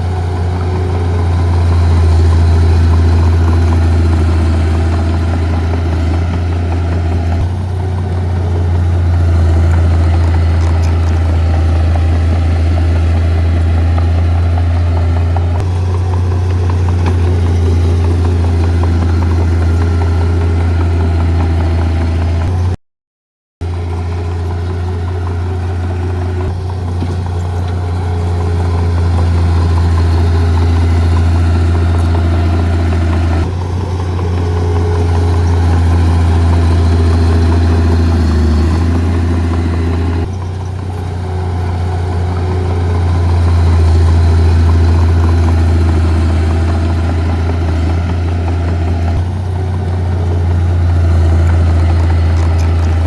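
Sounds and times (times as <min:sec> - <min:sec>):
heavy diesel machinery engine drone: 0:00.0 - 0:22.8, 0:23.6 - 0:53.0.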